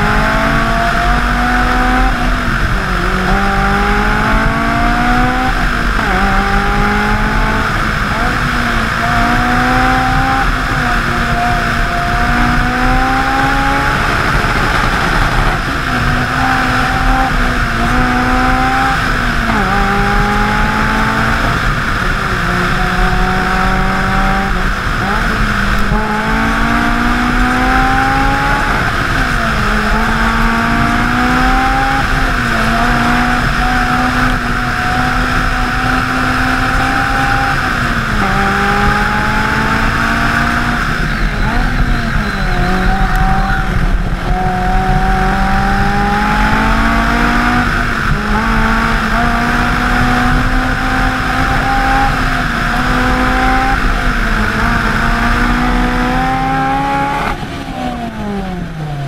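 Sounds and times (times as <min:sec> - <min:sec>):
engine revving under hard driving: 0:00.0 - 0:59.0
heavy rush of wind noise: 0:00.0 - 0:59.0.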